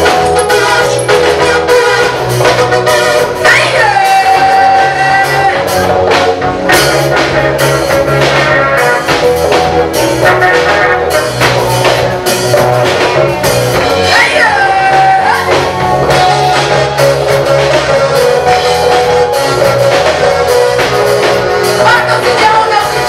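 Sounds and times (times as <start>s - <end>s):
bass line: 0.0s - 23.0s
drum kit beat: 0.0s - 23.0s
gospel band music: 0.0s - 23.0s.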